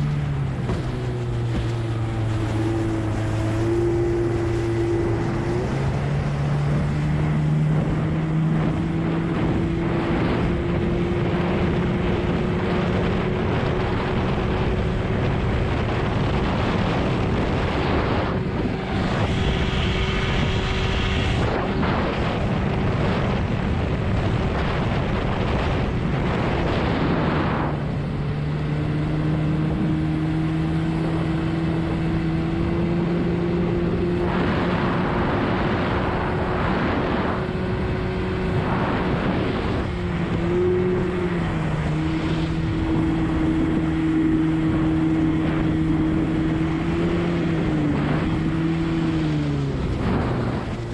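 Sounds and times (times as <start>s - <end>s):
outboard motor running hard: 0.0s - 50.9s
wind and water rushing: 0.0s - 50.9s.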